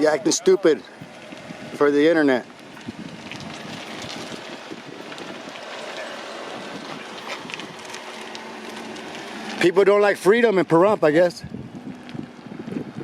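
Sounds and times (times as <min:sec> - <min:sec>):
wind on microphone: 0:00.0 - 0:09.6, 0:11.4 - 0:13.0.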